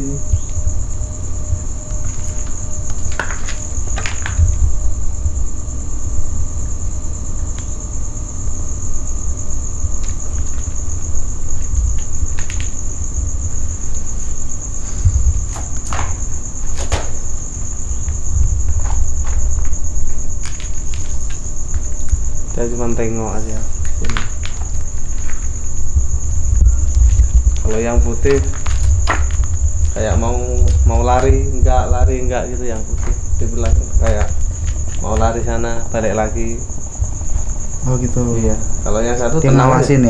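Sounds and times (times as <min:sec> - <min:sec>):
low rumble on microphone: 0:00.0 - 0:39.4
crickets chirping: 0:00.0 - 0:40.0.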